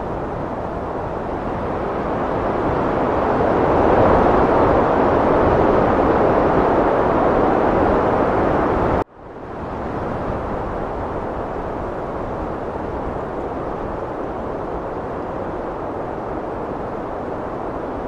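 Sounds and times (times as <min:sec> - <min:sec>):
heavy wind blowing: 0:00.0 - 0:18.0.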